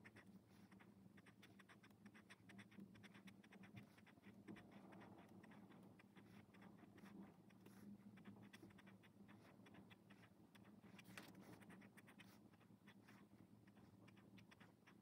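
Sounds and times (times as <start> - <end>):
pen scratching on paper: 0.0 - 15.0.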